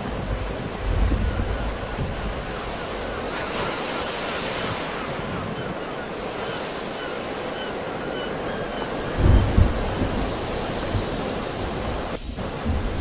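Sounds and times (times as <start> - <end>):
sea waves washing on shore: 0.0 - 13.0
wind gust buffeting microphone: 0.0 - 13.0.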